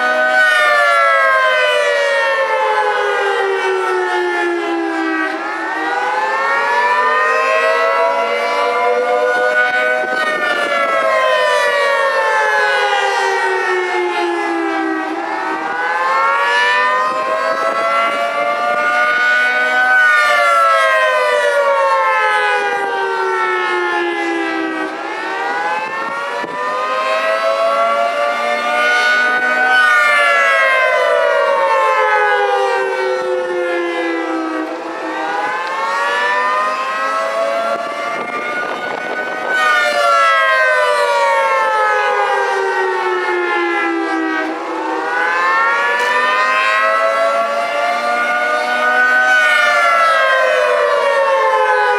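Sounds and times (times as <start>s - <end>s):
outdoor warning siren wailing: 0.0s - 51.9s.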